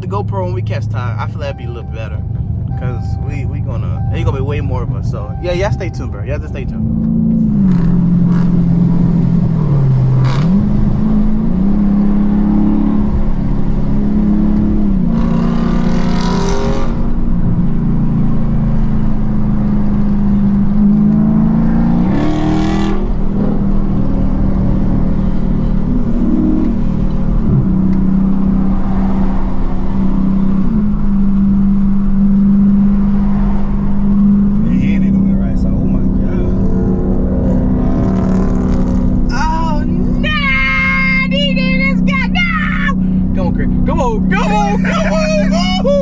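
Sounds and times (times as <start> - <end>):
car engine revving while driving: 0.0 - 46.0.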